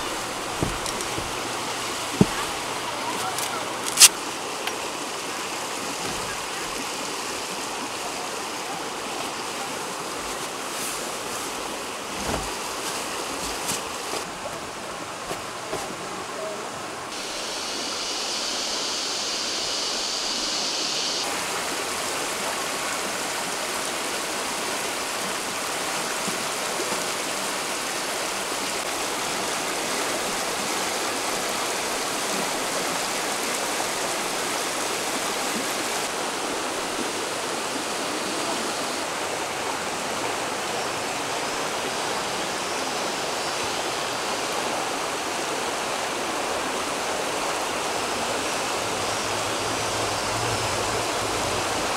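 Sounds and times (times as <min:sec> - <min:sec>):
stream rushing over stones: 0:00.0 - 0:51.9.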